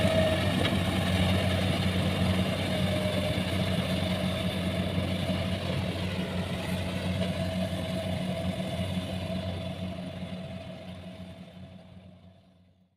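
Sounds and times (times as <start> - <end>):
combine harvester engine running: 0.0 - 12.7.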